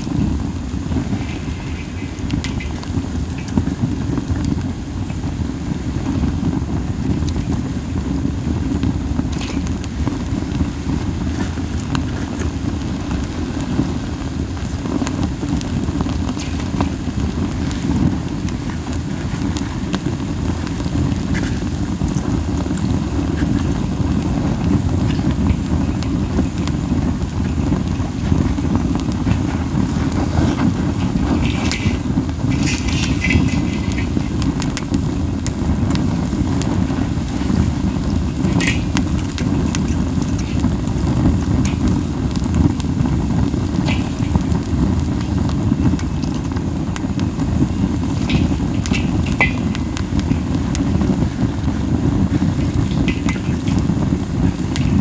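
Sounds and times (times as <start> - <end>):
flames whooshing: 0.0 - 55.0
pine cones crackling in fire: 0.0 - 55.0
wind buffeting microphone: 0.0 - 55.0.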